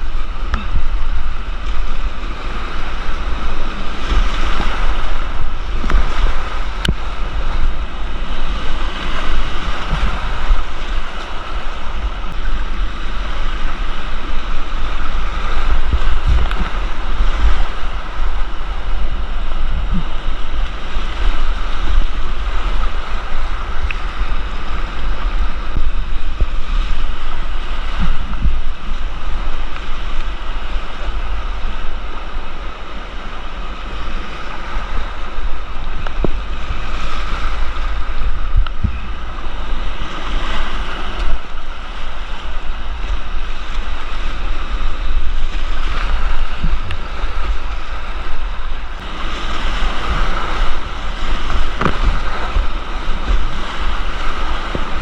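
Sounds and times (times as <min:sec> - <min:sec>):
whitewater rushing: 0:00.0 - 0:55.0
wind buffeting microphone: 0:00.0 - 0:55.0.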